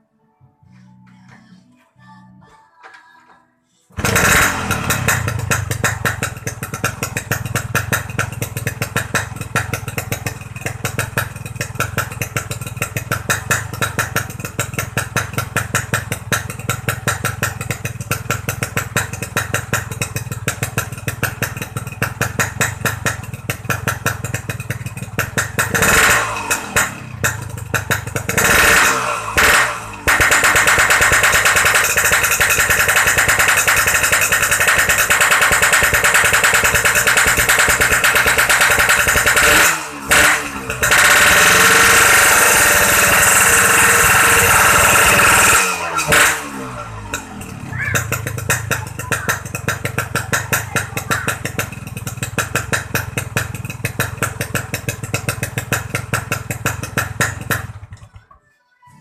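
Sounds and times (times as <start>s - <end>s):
two-stroke motorcycle engine rattling: 4.0s - 58.3s.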